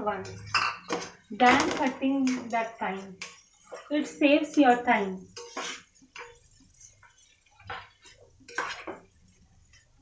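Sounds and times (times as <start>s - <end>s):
spatula scraping a pan: 0.0s - 10.0s.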